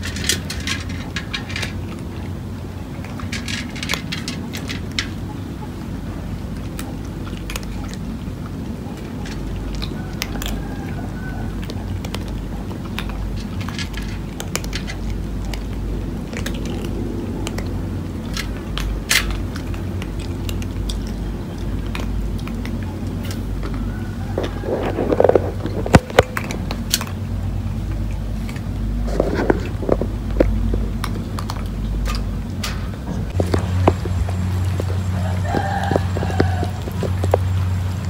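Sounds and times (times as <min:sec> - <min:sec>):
cats crunching dry kibble: 0:00.0 - 0:38.0
steady low rumble: 0:00.0 - 0:38.0.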